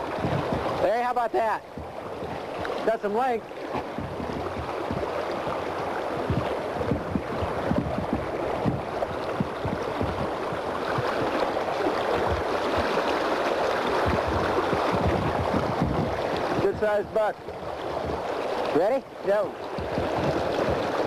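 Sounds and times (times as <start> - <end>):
low thumps: 0.0 - 18.5, 19.6 - 21.0
river water rushing: 0.0 - 21.0.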